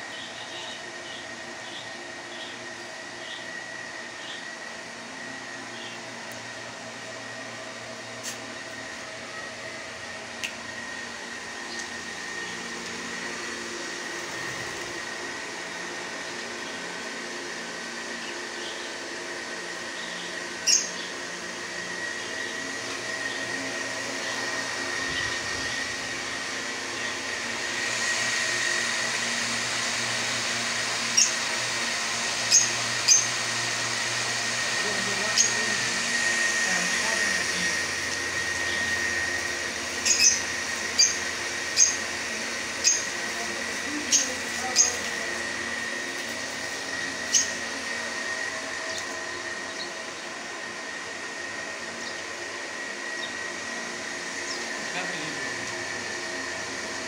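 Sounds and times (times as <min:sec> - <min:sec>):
small motor humming and whining: 0:00.0 - 0:57.0.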